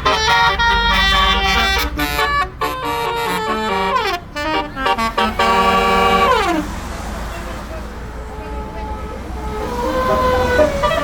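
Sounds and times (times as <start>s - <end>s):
musical bus air horn: 0.0s - 11.0s.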